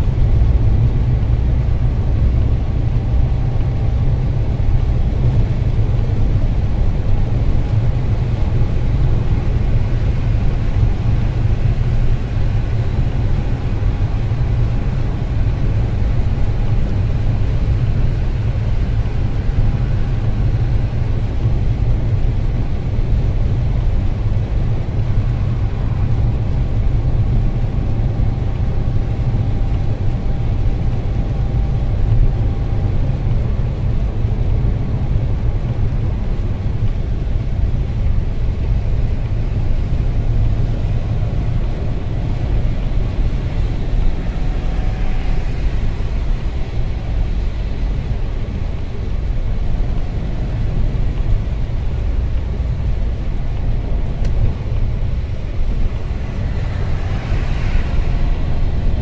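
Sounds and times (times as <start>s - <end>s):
car driving on wet road: 0.0s - 59.0s.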